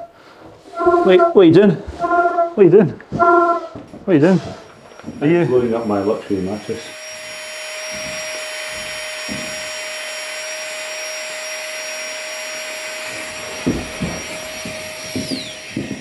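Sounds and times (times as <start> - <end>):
electric air pump whining: 0.0 - 16.0.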